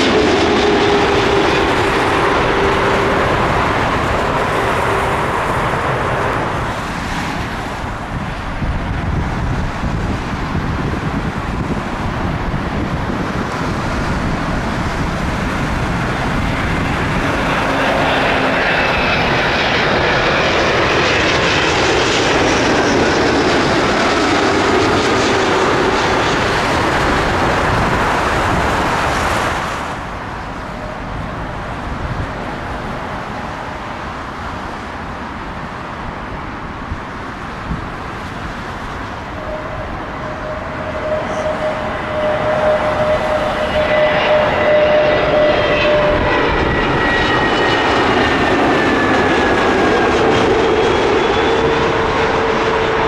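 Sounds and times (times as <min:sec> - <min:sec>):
approaching airliner engine tone: 0:00.0 - 0:53.0
jet airliner roar: 0:00.0 - 0:53.0
quieter jet rumble: 0:00.0 - 0:53.0.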